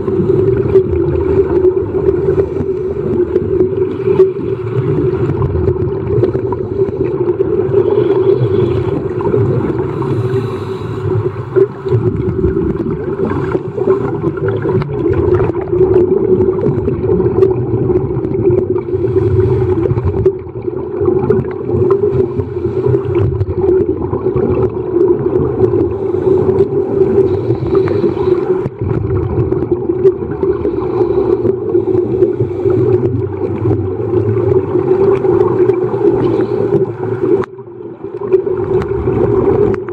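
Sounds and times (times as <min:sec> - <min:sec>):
underwater hum: 0:00.0 - 0:39.9.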